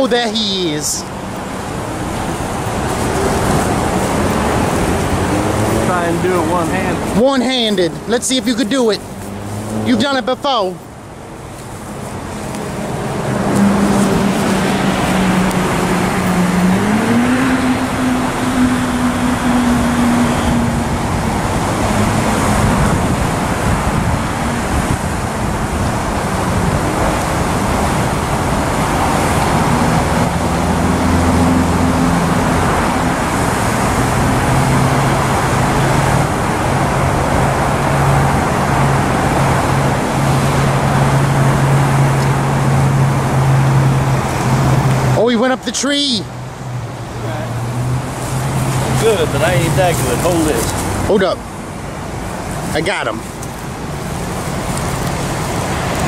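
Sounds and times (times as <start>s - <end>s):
engine hum: 0.0s - 56.0s
steady rushing noise: 0.0s - 56.0s.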